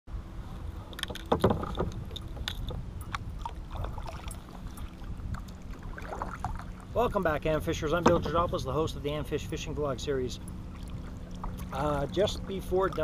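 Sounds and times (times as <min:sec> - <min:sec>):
low steady rumble: 0:00.1 - 0:13.0
paddle splashing water: 0:00.6 - 0:08.6, 0:09.3 - 0:13.0.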